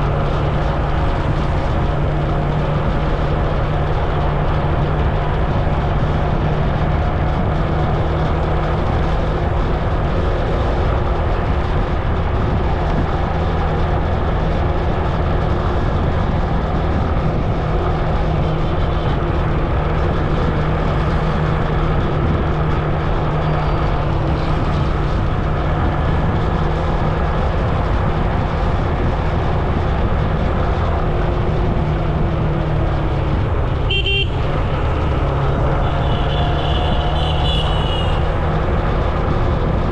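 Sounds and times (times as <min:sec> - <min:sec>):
road and wind noise: 0:00.0 - 0:39.9
vehicle engine droning: 0:00.0 - 0:39.9.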